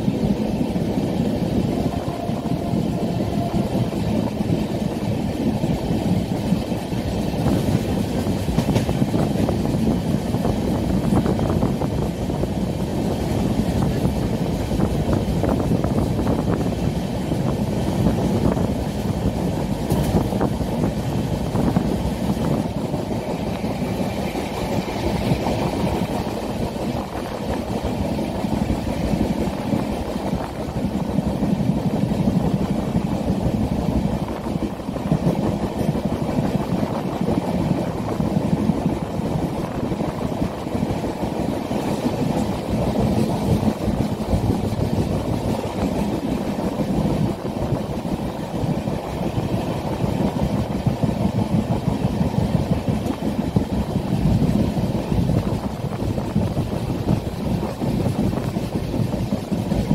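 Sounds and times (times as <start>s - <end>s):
train coach rumble: 0.0s - 59.9s.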